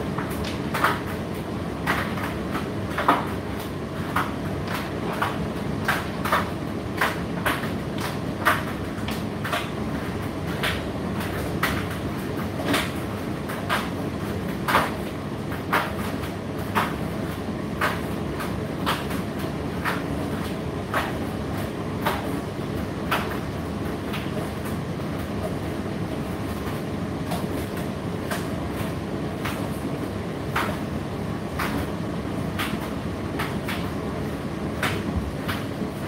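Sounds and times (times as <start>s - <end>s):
tumble dryer drum rumbling: 0.0s - 36.0s.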